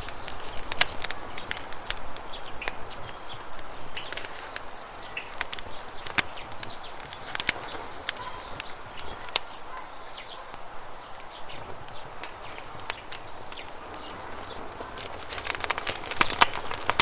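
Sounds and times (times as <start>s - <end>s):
birds chirping faintly: 0.0s - 17.0s
campfire crackling and popping: 0.0s - 17.0s.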